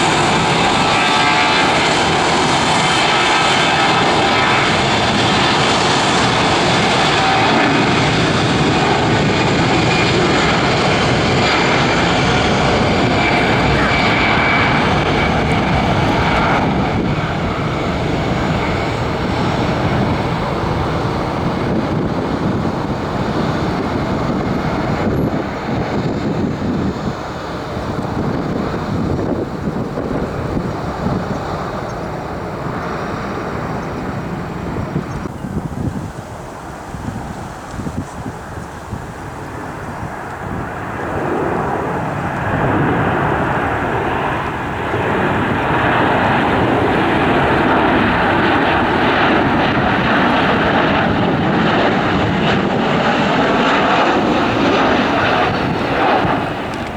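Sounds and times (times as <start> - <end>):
airliner engines roaring: 0.0 - 56.9
wind buffeting microphone: 0.0 - 56.9.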